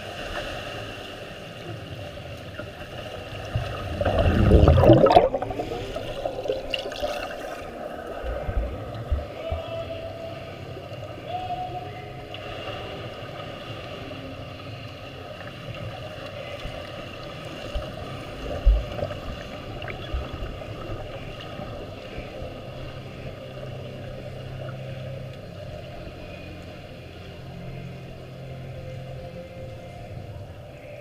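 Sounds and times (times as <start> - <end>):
muffled underwater hum and water: 0.0 - 31.0.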